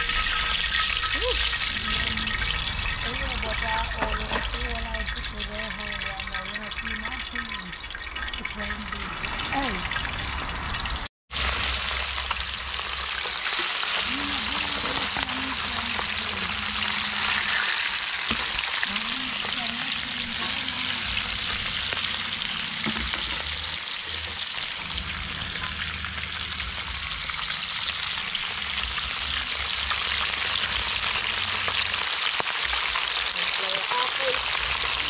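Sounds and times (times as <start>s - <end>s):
fish sizzling in hot oil: 0.0s - 35.0s.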